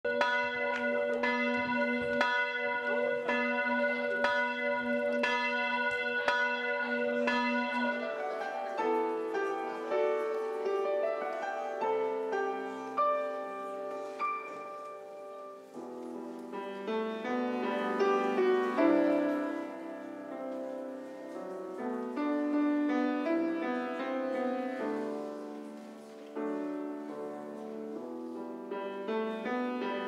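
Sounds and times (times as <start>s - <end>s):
church bells ringing: 0.1s - 30.0s
piano playing: 0.1s - 30.0s.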